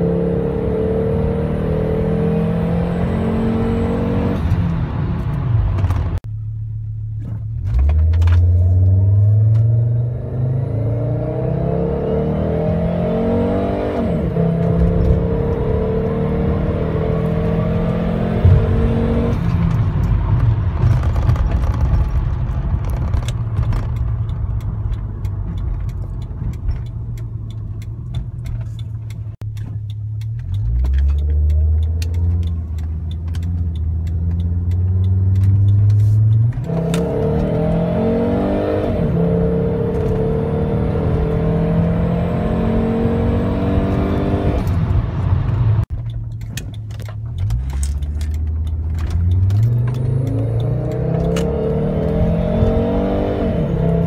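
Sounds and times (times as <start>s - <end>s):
car engine accelerating hard: 0.0s - 6.2s, 7.6s - 54.0s.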